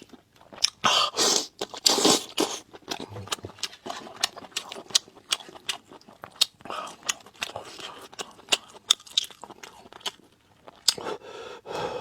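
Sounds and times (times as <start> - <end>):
wet chewing smacks: 0.0 - 11.1.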